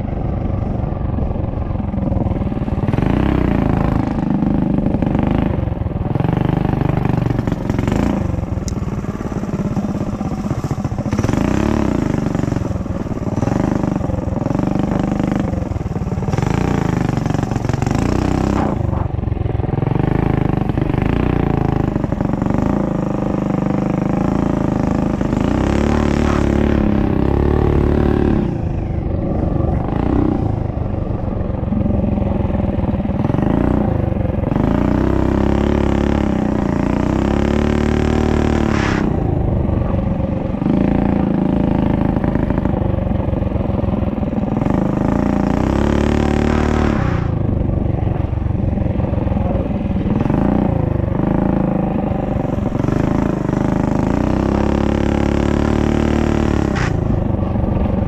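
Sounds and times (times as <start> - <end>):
minibike engine revving: 0.0 - 58.0.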